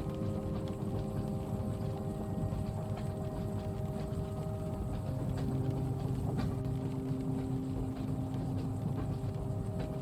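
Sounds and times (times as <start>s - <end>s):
constant hum: 0.0s - 10.0s
train rumbling: 0.0s - 10.0s.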